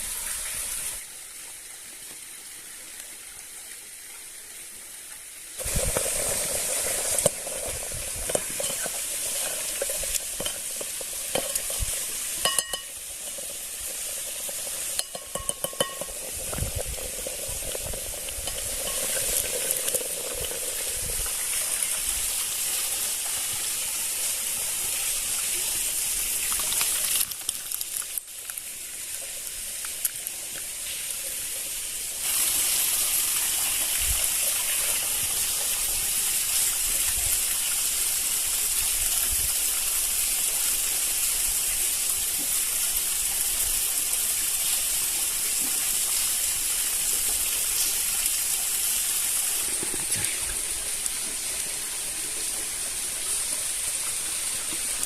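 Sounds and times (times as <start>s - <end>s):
steady rushing hiss: 5.5s - 27.2s, 28.3s - 55.0s.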